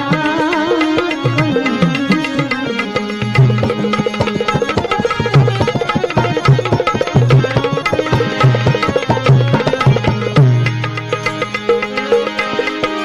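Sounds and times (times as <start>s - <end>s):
hand drum rhythm: 0.0s - 13.0s
held drone: 0.0s - 13.0s
melody line: 1.2s - 13.0s.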